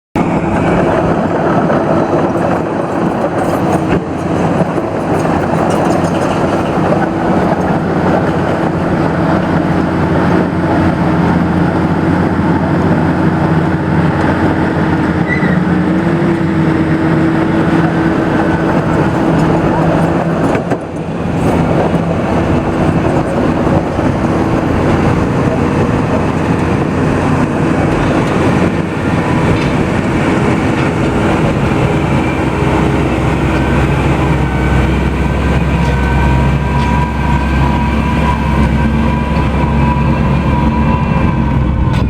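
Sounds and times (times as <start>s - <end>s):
truck diesel engine running: 0.2s - 42.0s.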